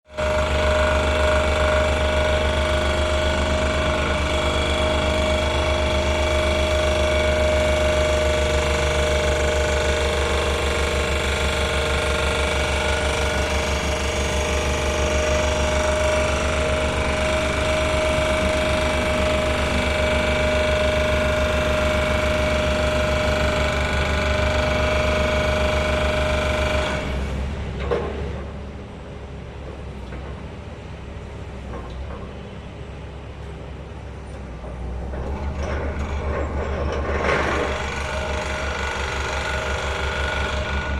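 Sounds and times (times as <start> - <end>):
machine drone: 0.1 - 28.5, 34.7 - 40.9.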